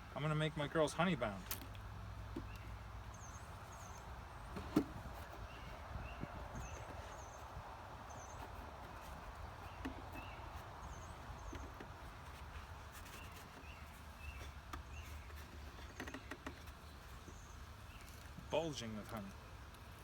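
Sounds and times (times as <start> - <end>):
outdoor background hiss: 0.0 - 20.0
small birds chirping: 0.0 - 20.0
light wooden knocks and clicks: 1.4 - 19.9.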